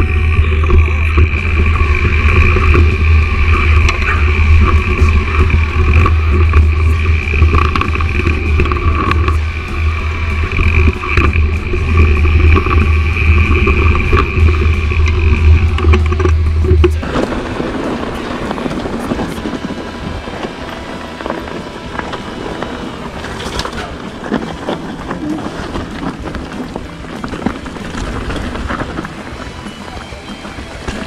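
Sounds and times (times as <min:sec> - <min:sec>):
bike rattling on stones: 0:00.0 - 0:31.0
rushing noise: 0:00.0 - 0:31.0.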